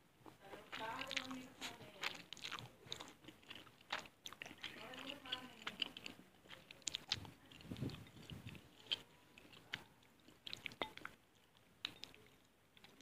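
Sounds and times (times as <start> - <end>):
chewing and wet mouth sounds: 0.2 - 13.0.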